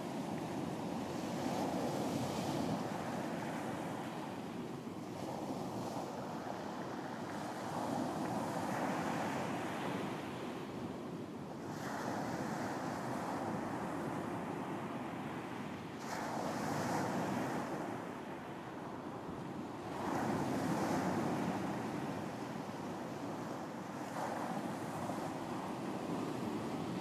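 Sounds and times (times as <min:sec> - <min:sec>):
ocean waves breaking on beach: 0:00.0 - 0:27.0
wind: 0:00.0 - 0:27.0.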